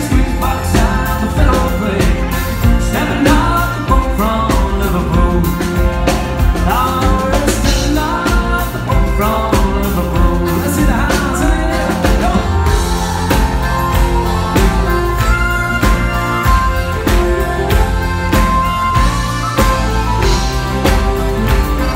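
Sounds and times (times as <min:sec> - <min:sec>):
man singing: 0:00.0 - 0:21.9
piano accordion: 0:00.0 - 0:21.9
steady drum beat: 0:00.0 - 0:21.9.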